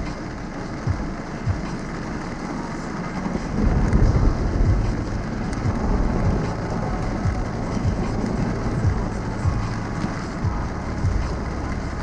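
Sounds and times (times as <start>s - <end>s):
engine and road rumble: 0.0s - 12.0s
rain and wet tyres hissing: 0.0s - 12.0s.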